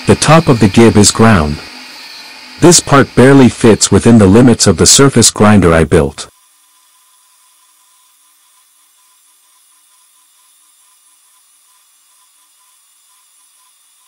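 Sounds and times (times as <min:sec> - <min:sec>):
grinding wheel hissing on metal: 0:00.0 - 0:14.0.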